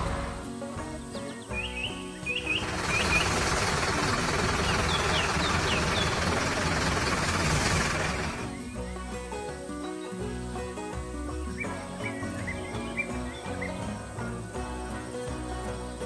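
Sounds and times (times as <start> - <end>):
birds chirping: 0.0 - 10.6, 11.2 - 14.6
background music: 0.0 - 16.0.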